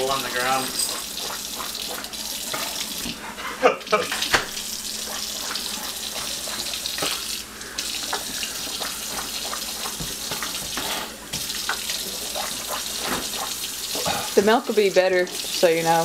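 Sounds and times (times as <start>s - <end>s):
faucet running: 0.0s - 16.0s.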